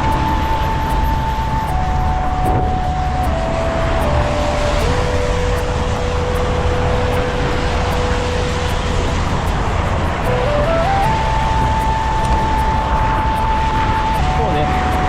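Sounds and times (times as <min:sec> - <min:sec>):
city traffic: 0:00.0 - 0:15.0
thin whine: 0:00.0 - 0:15.0
wet road noise: 0:00.0 - 0:15.0.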